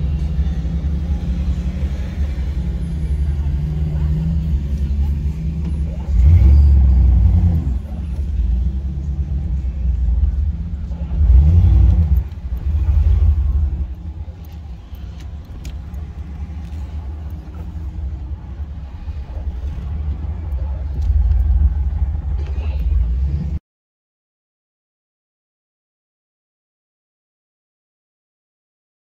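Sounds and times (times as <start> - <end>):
jeep engine rumbling and revving: 0.0 - 23.6.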